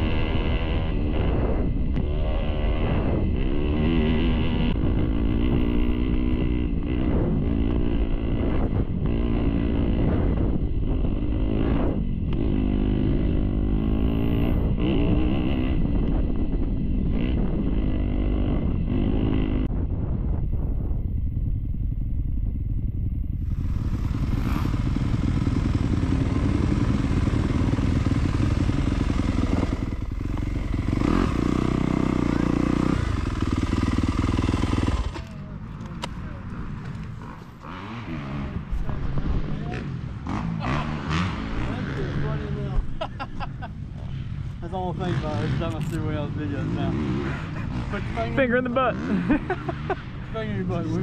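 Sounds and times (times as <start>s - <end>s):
dirt bike engine revving: 0.0s - 19.9s, 23.3s - 51.0s.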